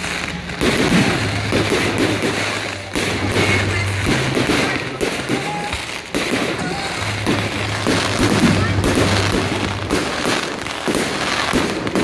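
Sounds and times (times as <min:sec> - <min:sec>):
fireworks bursting and crackling: 0:00.0 - 0:12.0
sharp firework bangs: 0:00.0 - 0:12.0.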